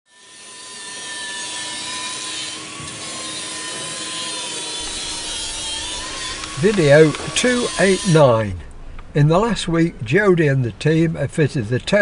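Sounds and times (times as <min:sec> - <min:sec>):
high wavering whine: 0:00.3 - 0:10.7.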